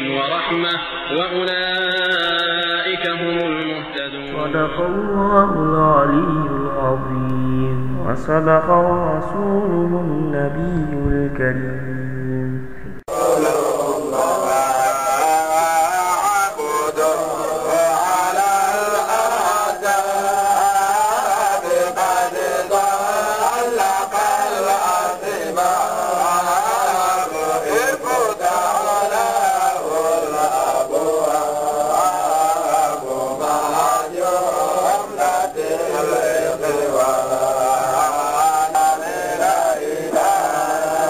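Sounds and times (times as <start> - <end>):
men chanting: 0.1 - 11.8, 13.1 - 41.0.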